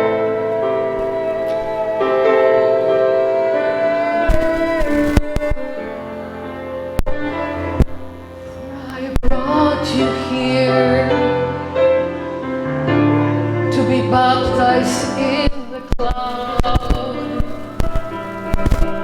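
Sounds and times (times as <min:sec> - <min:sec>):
sustained instrumental chords: 0:00.0 - 0:15.4
person singing: 0:00.0 - 0:19.0.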